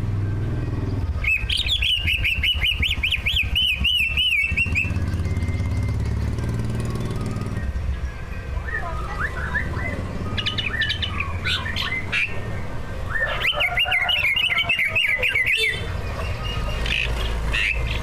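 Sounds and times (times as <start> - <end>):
bird singing whistled notes: 0.1 - 18.0.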